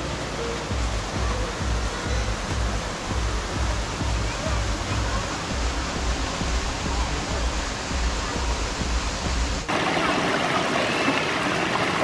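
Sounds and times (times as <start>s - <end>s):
small cascade splashing: 0.0s - 12.0s
stream running over rocks: 0.0s - 12.0s.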